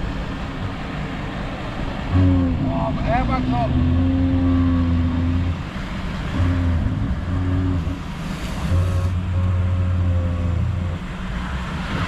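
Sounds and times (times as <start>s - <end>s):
diesel engine running low: 0.0s - 12.0s.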